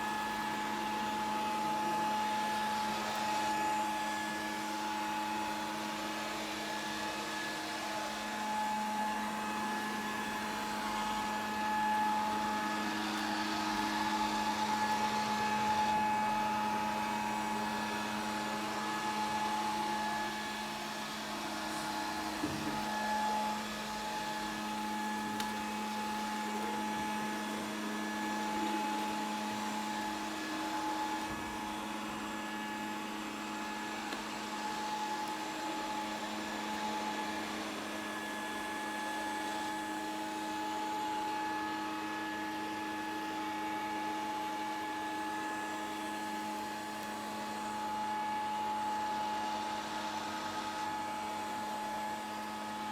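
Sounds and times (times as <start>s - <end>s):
robot vacuum cleaner running: 0.0s - 52.9s.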